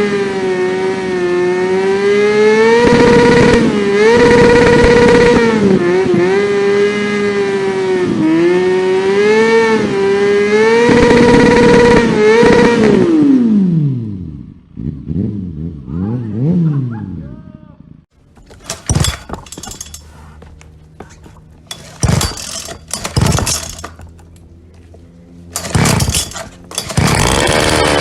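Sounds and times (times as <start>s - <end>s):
motorcycle engine revving: 0.0s - 16.7s, 18.4s - 20.4s, 21.2s - 28.0s.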